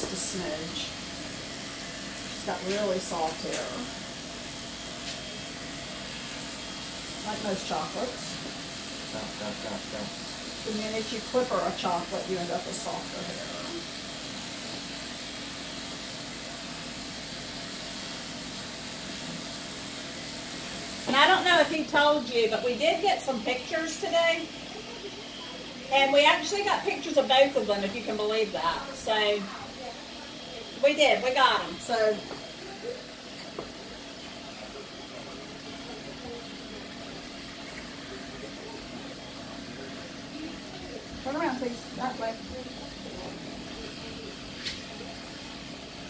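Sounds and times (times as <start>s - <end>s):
electric clippers humming: 0.0s - 46.0s.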